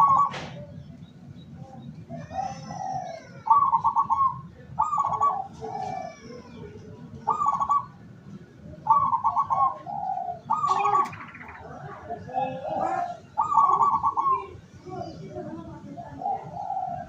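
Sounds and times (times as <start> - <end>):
dove cooing: 0.0 - 0.8, 2.0 - 8.0, 8.7 - 17.0.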